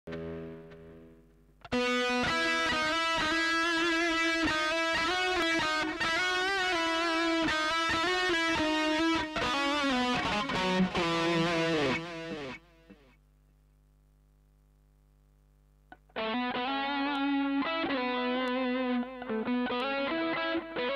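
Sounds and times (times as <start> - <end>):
electric guitar with reverb: 0.1 - 13.1, 16.0 - 20.9.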